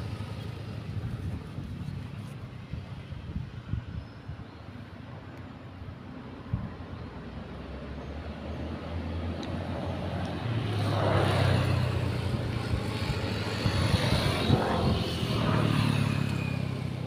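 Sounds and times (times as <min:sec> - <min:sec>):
vehicle engine humming: 0:00.0 - 0:03.5, 0:05.0 - 0:17.0.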